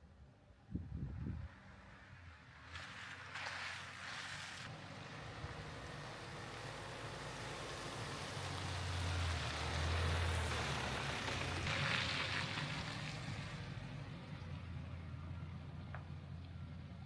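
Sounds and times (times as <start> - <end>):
road noise: 0.0 - 17.0
vehicle engine hum: 0.0 - 17.0.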